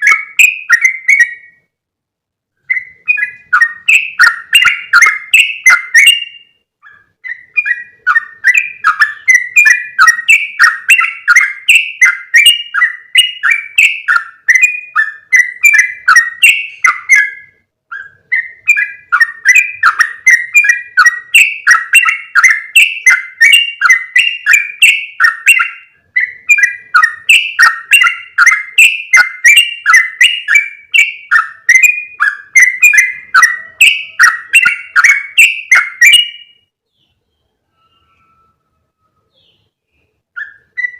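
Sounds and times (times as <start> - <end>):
bird chattering call: 2.7 - 36.5.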